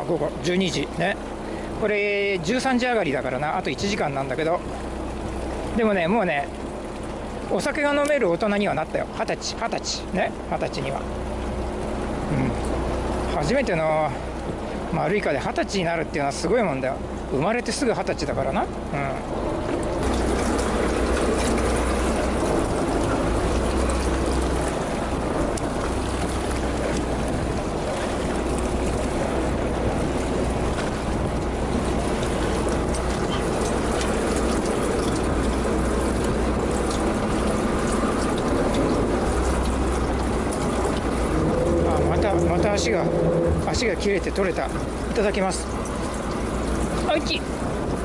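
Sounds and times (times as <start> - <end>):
boat engine running: 0.0 - 48.0
water splashing around hull: 0.0 - 48.0.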